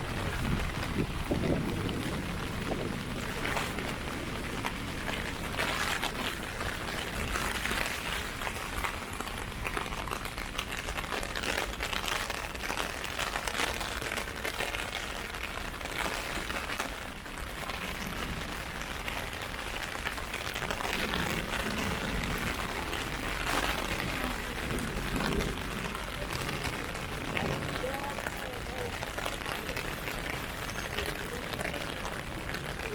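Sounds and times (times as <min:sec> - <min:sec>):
heavy rain on an umbrella: 0:00.0 - 0:32.9.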